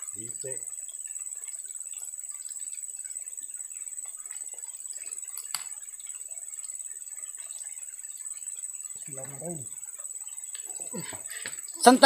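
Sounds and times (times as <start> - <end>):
faint ticks: 0.0 - 11.9
high-pitched insect drone: 0.0 - 12.0.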